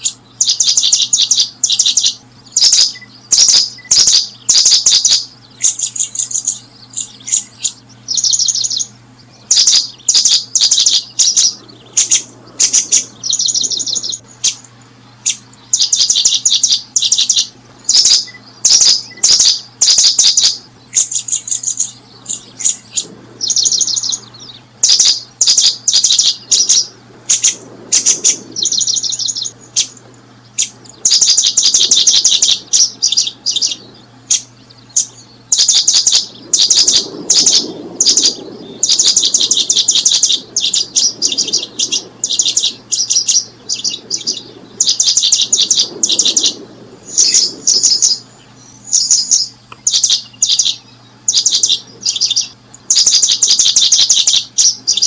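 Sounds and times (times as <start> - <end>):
faint low hum: 0.0 - 55.0
small birds trilling: 0.0 - 55.0.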